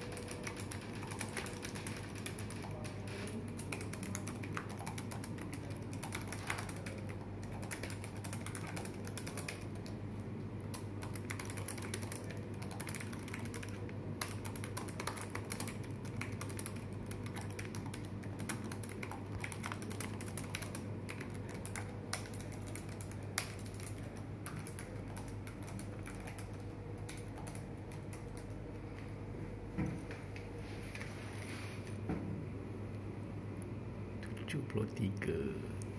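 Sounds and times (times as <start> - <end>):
fast typing on laptop keyboard: 0.0 - 29.2.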